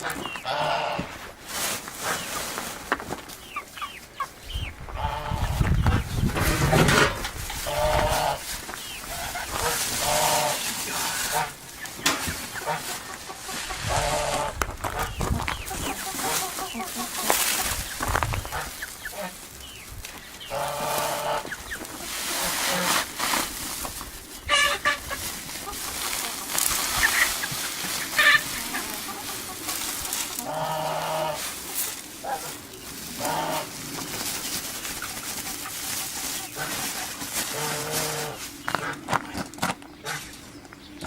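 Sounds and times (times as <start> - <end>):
farm animal drawn-out calls: 0.0 - 1.2, 3.6 - 40.4
chickens clucking: 0.0 - 41.0.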